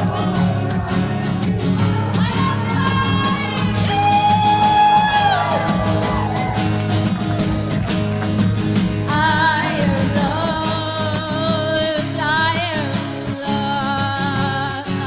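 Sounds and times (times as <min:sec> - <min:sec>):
person singing with vibrato: 0:00.0 - 0:06.2, 0:09.0 - 0:15.0
strummed guitar: 0:00.0 - 0:15.0.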